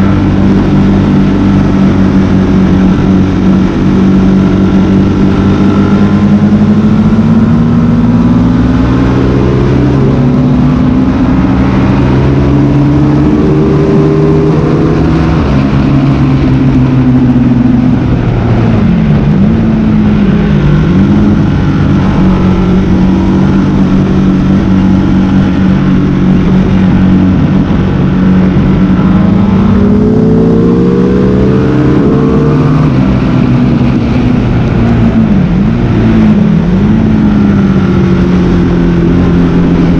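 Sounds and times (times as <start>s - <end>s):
motorcycle engine shifting gears: 0.0s - 39.9s
steady rushing noise: 0.0s - 39.9s.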